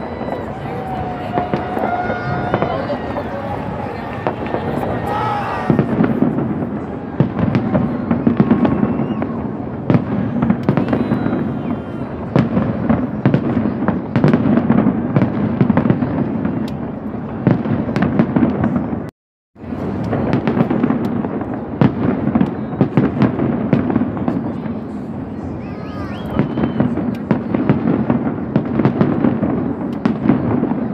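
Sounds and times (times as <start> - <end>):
fireworks bangs and crackles: 0.0 - 30.9
rumble of fireworks bursts: 0.0 - 30.9.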